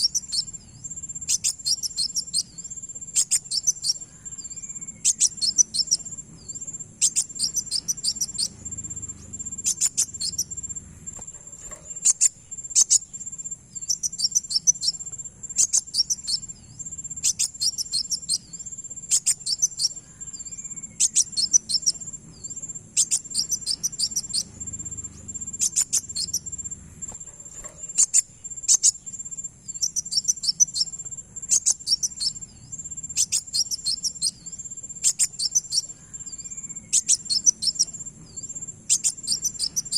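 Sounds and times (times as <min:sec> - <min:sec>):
bird chirping: 0:00.0 - 0:39.9
insect trill: 0:00.0 - 0:39.9.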